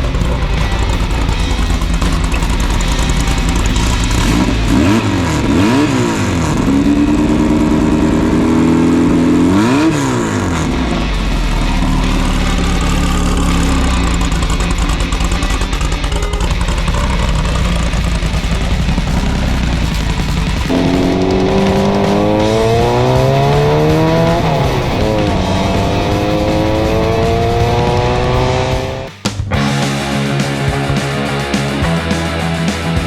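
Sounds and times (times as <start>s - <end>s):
buggy engine revving: 0.0s - 33.0s.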